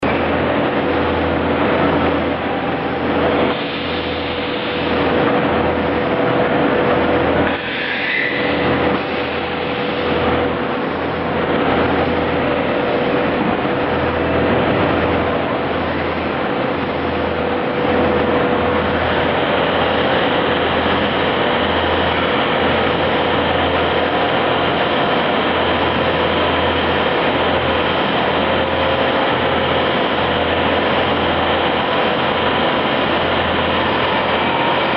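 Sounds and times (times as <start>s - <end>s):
cnc machine running: 0.0s - 34.9s.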